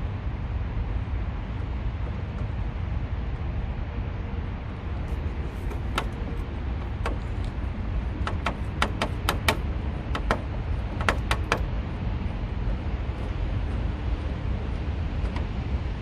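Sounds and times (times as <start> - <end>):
low rumble of highway traffic: 0.0 - 16.0.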